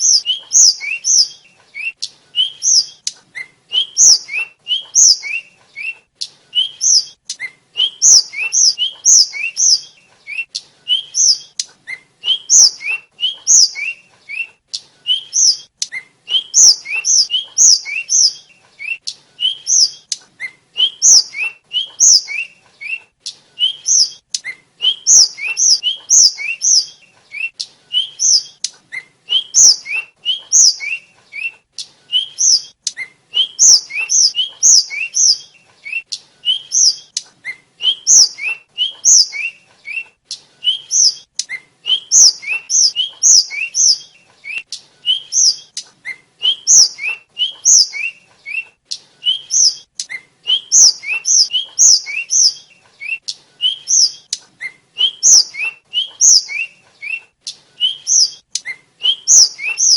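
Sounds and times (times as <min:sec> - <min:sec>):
bird singing high whistled notes: 0:00.0 - 0:59.9.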